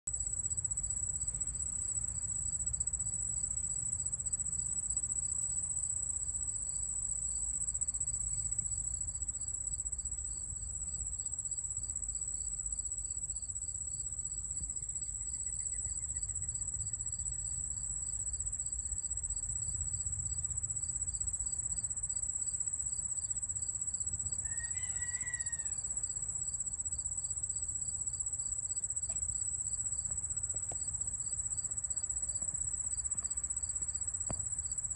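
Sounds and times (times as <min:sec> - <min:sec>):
high-pitched insect trill: 0:00.1 - 0:34.9
pulsing insect chirp: 0:00.1 - 0:34.9.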